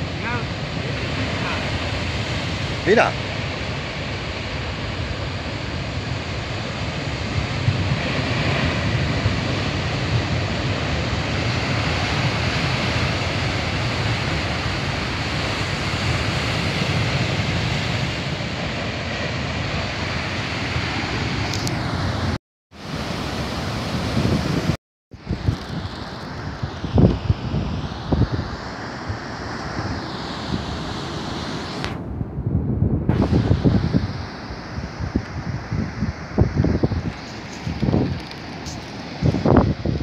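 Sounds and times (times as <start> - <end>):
surf breaking on rocky shore: 0.0 - 32.0.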